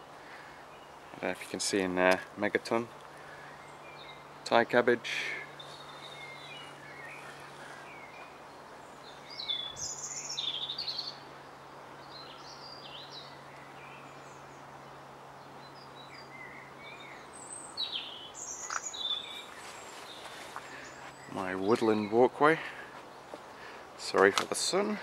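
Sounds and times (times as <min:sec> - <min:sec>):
songbirds chirping and singing: 0:00.0 - 0:25.0.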